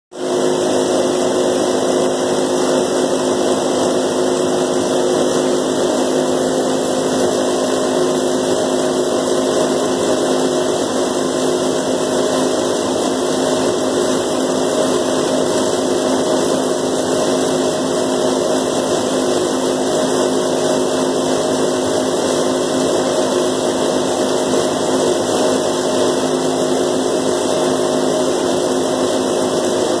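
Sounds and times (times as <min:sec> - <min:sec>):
silo unloader machine hum: 0:00.2 - 0:30.0.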